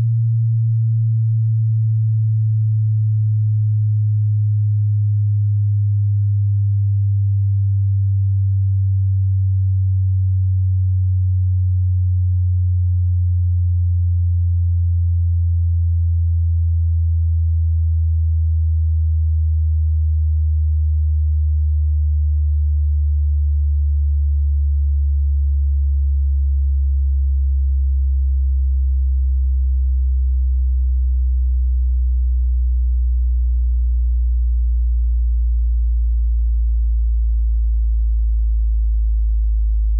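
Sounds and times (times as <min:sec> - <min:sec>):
low sine tone sliding down: 0:00.0 - 0:39.9.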